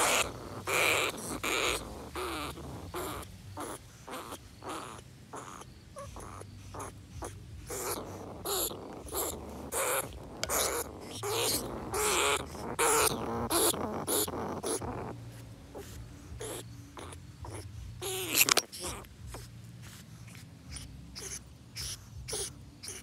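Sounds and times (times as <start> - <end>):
faint low hum: 0.0 - 23.0
rats calling harshly: 0.0 - 23.0.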